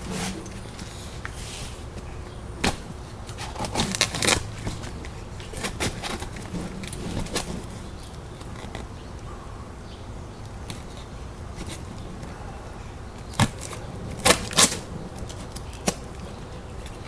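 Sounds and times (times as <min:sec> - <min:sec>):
steady low background noise: 0:00.0 - 0:17.0.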